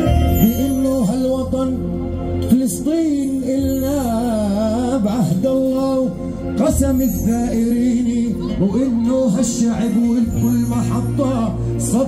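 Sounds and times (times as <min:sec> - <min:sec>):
live music over stage speakers: 0:00.0 - 0:12.0.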